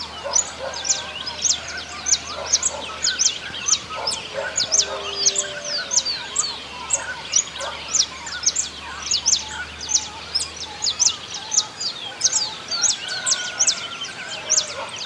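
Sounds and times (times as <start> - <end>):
lower bird calls: 0.0 - 14.8
birds chirping: 0.0 - 15.0.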